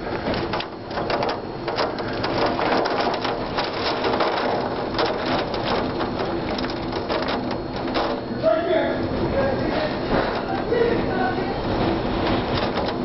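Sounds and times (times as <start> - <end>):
heavy rain hitting surfaces: 0.0 - 8.4, 9.0 - 13.0
wind: 0.0 - 13.0.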